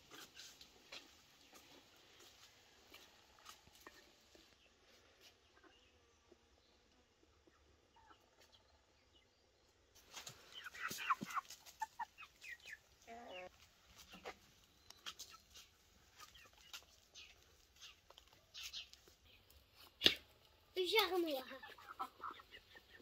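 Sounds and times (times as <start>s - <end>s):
chickens clucking: 0.0s - 9.2s, 10.0s - 23.0s.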